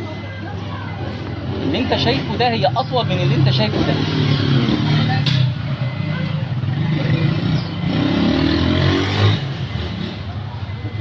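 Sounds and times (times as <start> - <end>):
voices talking in background: 0.0 - 11.0.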